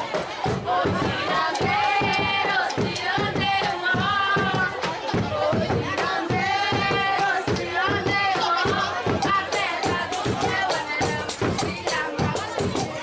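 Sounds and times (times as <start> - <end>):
crowd noise: 0.0 - 13.0
fast drumbeat: 0.0 - 13.0
voices singing a melody: 0.0 - 13.0.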